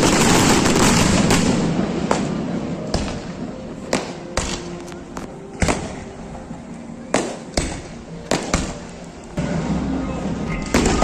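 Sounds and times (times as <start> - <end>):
fireworks bangs with echo: 0.0 - 6.3, 7.0 - 11.0.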